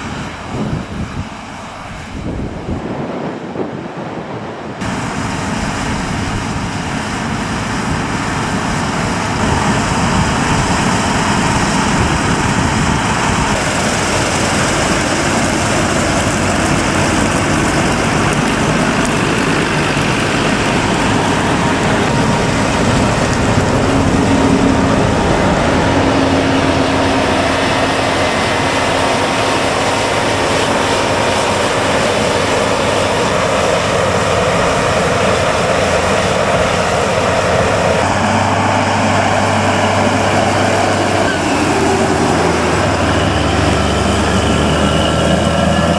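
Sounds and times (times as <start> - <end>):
loud machine drone: 0.0 - 45.9
steady hum: 4.2 - 45.8.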